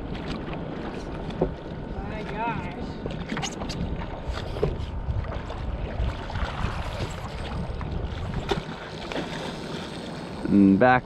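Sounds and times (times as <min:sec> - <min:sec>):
wind on microphone: 0:00.0 - 0:09.1
small waves lapping: 0:00.0 - 0:10.6.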